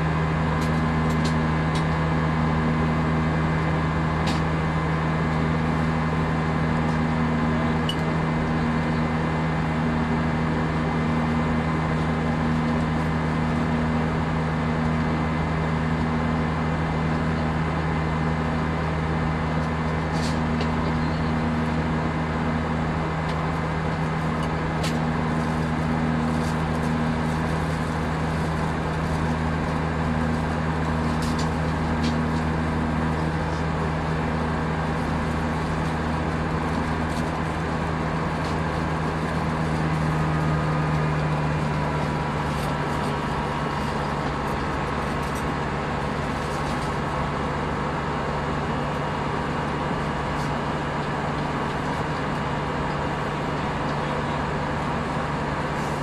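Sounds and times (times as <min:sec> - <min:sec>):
cabin airflow rush: 0:00.0 - 0:56.0
low engine drone: 0:00.0 - 0:56.0.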